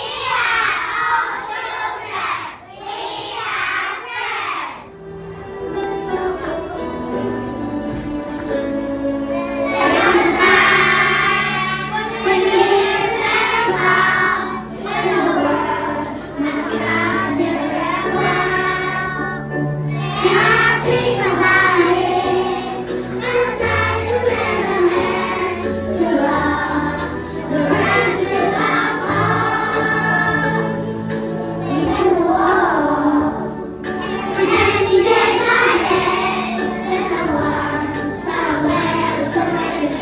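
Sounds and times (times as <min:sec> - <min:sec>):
children's choir singing: 0:00.0 - 0:40.0.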